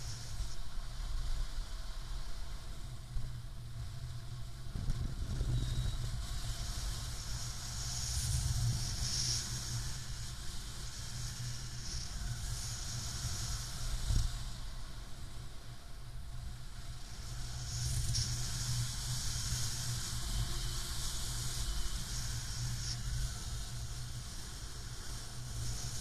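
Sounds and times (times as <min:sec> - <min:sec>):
high airflow hiss: 0:00.0 - 0:26.0.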